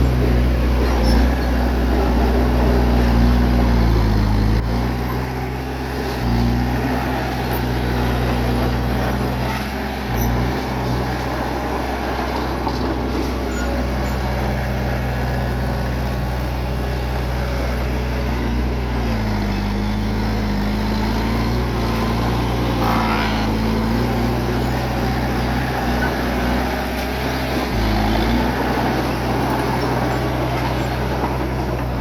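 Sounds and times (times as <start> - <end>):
bulldozer diesel engine running: 0.0 - 32.0.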